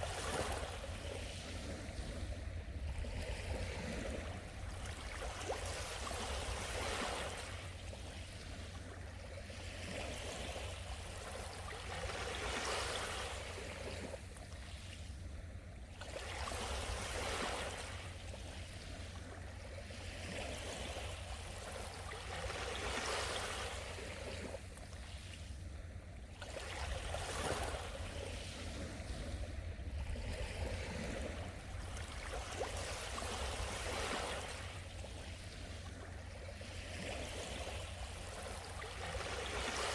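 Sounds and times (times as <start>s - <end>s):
small waves washing ashore: 0.0s - 39.9s.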